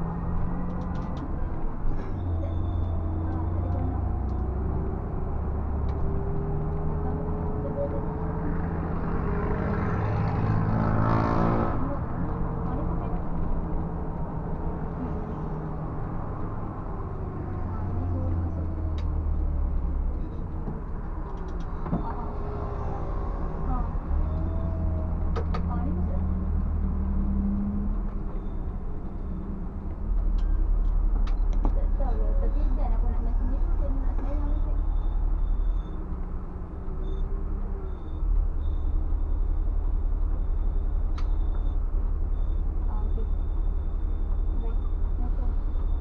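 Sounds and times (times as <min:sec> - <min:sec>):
bus diesel engine drone: 0:00.0 - 0:46.0.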